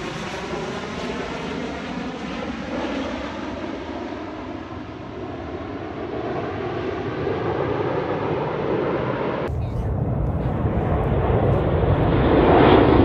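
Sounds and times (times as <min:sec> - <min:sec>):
jet engine flying overhead: 0:00.0 - 0:13.0.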